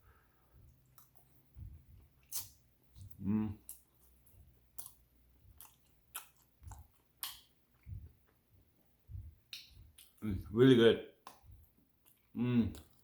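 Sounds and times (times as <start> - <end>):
person chewing food: 0.0 - 10.5, 11.2 - 13.0.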